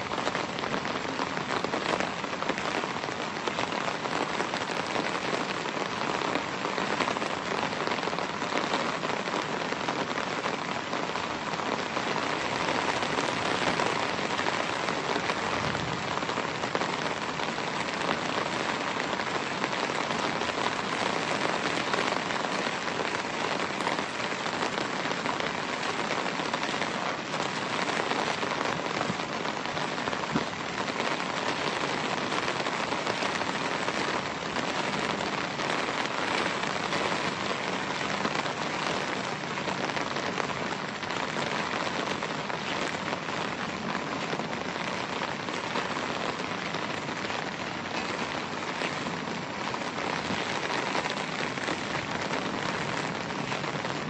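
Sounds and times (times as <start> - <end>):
rain pattering on vegetation: 0.0 - 54.0.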